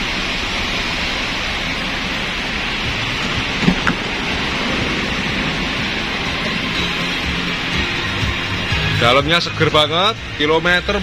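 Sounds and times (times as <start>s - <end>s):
steady hissing noise: 0.0s - 9.5s.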